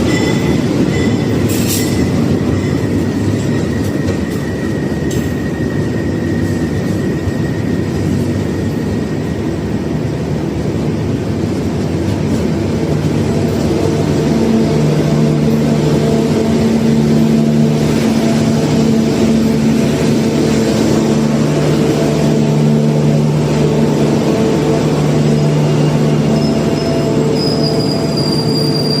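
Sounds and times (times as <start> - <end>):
steel wheels squealing: 0.0 - 10.0, 12.2 - 29.0
diesel locomotive engine hum: 0.0 - 29.0
rolling train rumble: 0.0 - 29.0.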